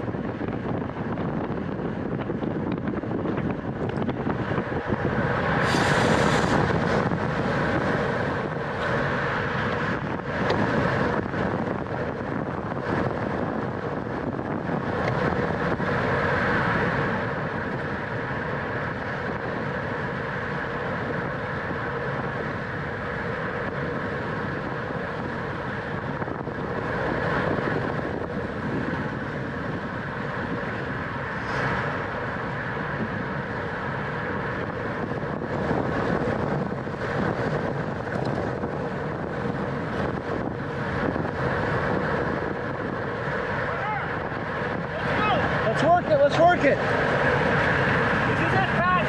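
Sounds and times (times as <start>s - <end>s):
wind noise on microphone: 0.0s - 49.0s.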